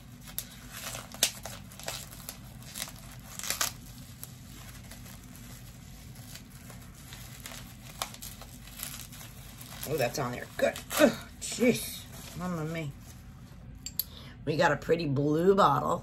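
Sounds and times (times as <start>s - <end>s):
packaging crinkling: 0.0s - 13.6s.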